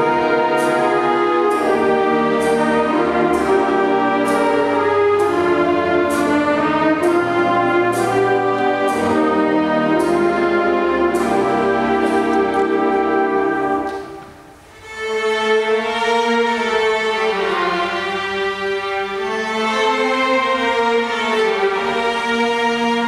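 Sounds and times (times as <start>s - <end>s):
orchestra playing: 0.0s - 23.0s
strings slow melody: 0.0s - 23.0s.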